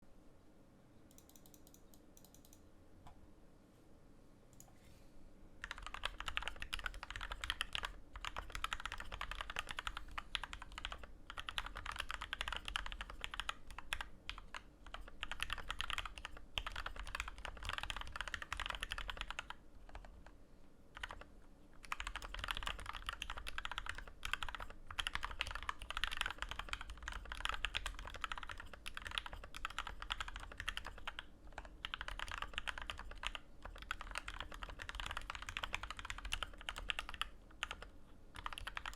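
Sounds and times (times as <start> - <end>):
fast mechanical keyboard typing: 5.6 - 38.9.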